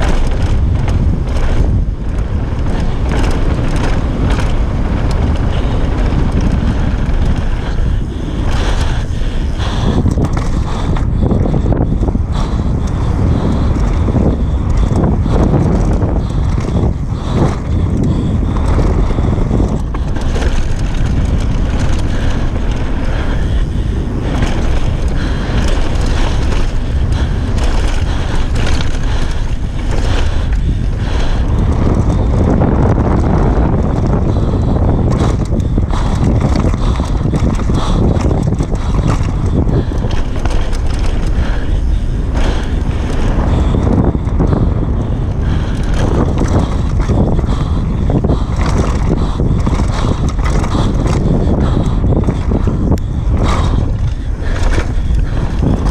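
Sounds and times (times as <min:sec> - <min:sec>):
bike rattling over bumps: 0:00.0 - 0:55.9
tyres rolling over dirt and stones: 0:00.0 - 0:55.9
wind buffeting microphone: 0:00.0 - 0:55.9.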